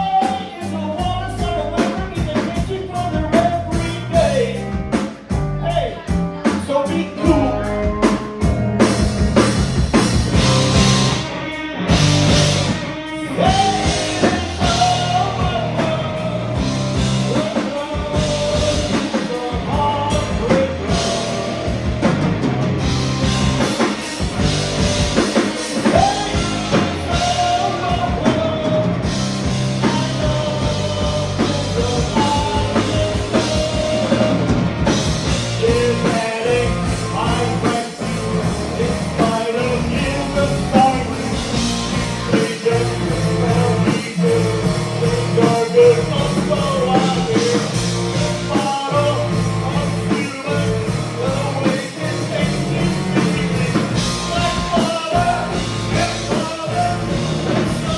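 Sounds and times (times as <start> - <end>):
rock music with singing: 0.0 - 57.9.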